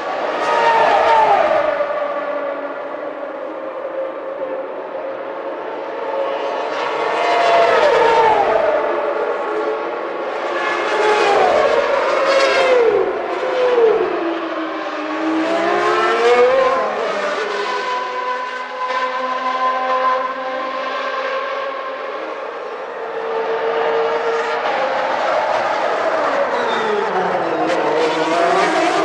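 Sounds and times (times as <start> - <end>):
race cars passing at speed: 0.0 - 29.0.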